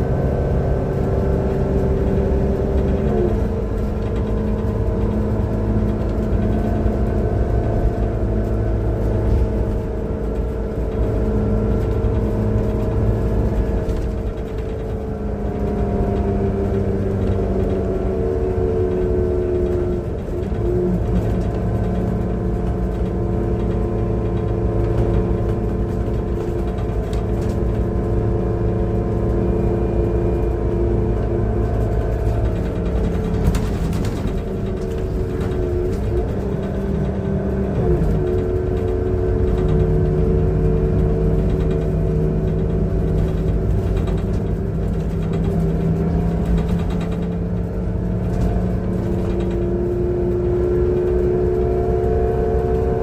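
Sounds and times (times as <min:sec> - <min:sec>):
bus engine drone: 0:00.0 - 0:53.0.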